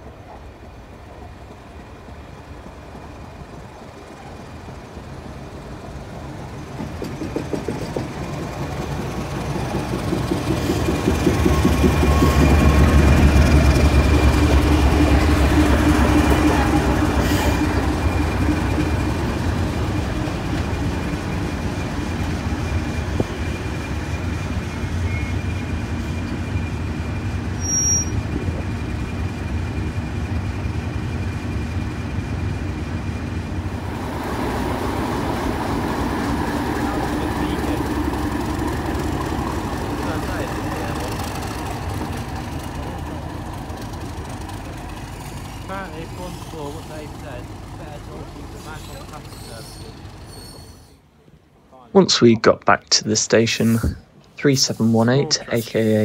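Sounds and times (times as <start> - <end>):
train rumbling on rails: 0.0 - 52.5.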